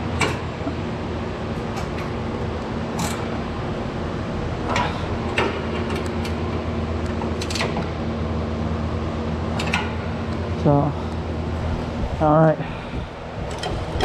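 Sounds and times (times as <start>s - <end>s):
cooler fan humming: 0.0s - 14.0s.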